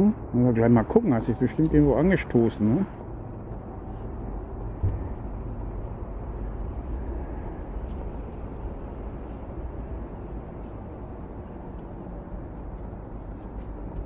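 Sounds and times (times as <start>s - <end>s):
low outdoor background rumble: 0.0s - 14.0s.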